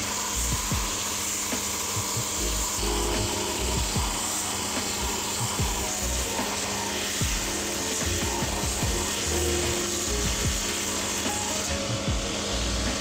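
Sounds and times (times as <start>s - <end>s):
background music with steady beat: 0.0s - 13.0s
shoe sole rasping on sanding wheel: 0.0s - 13.0s.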